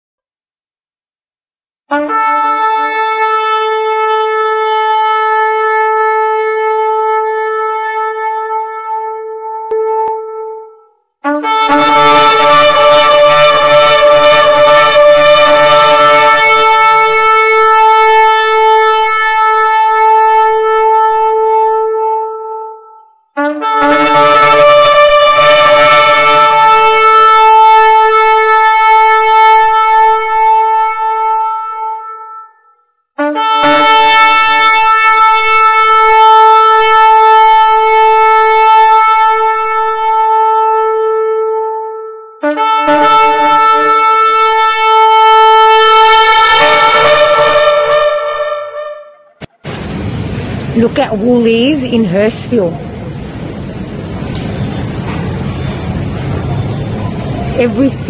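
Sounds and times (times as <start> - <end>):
shofar blast: 1.9 - 50.8.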